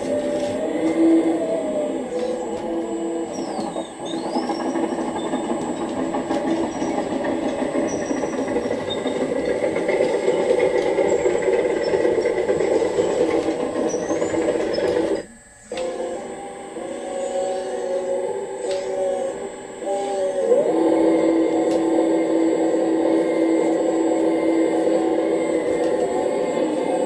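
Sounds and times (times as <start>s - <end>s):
electric motor and hydraulic pump: 0.0s - 27.0s.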